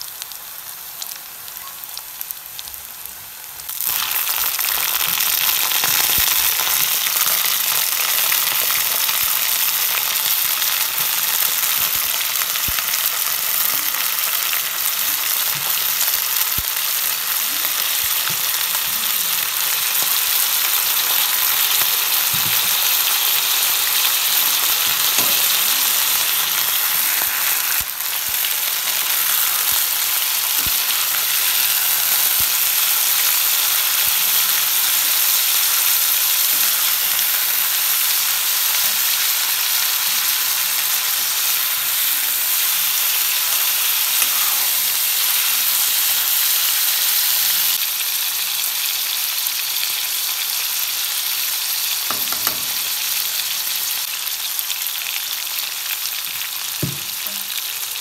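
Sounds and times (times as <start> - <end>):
frying sizzle in a wok: 0.0 - 58.0.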